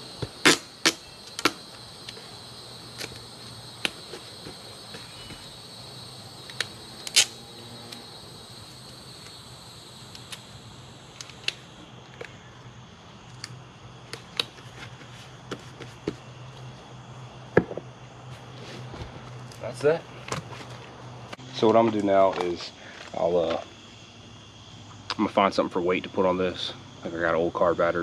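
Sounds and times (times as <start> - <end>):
high insect trill: 0.0 - 28.0.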